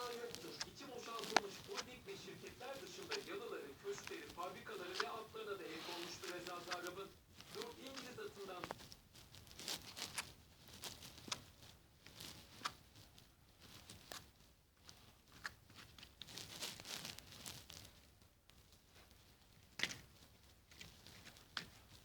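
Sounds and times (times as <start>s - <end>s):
light clicks of objects handled: 0.0s - 22.0s
rustling and crinkling: 0.0s - 22.0s.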